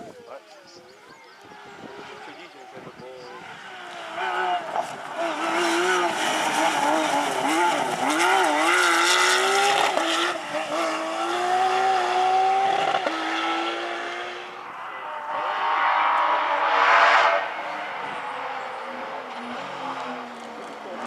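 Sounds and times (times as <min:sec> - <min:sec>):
rally car engine at full throttle: 0:00.0 - 0:21.0.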